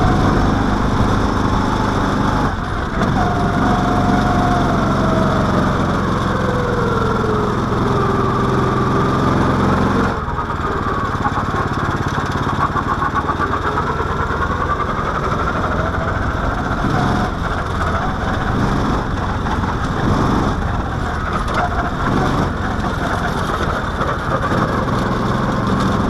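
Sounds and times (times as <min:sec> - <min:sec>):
single-cylinder engine running: 0:00.0 - 0:26.0.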